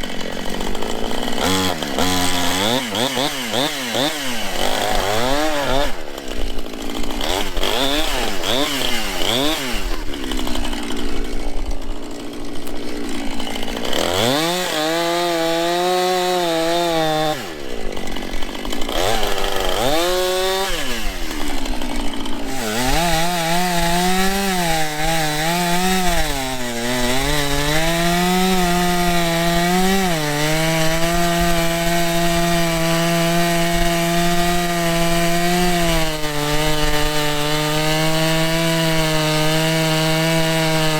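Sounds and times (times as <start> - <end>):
chainsaw cutting a tree: 0.0 - 40.9.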